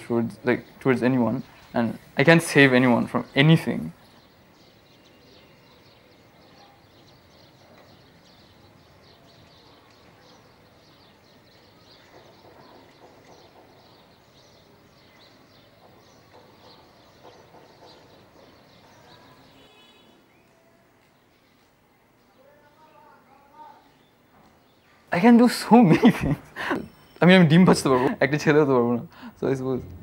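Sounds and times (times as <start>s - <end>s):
faint background ambience: 0.0s - 30.0s.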